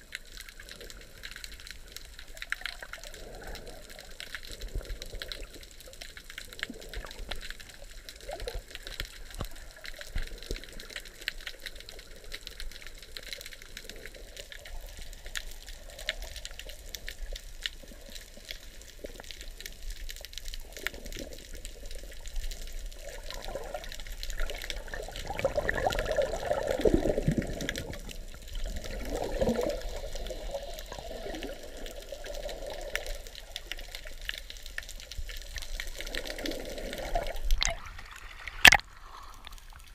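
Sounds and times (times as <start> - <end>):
crackle of fine clicks underwater: 0.0 - 39.9
muffled moving water: 0.0 - 39.9.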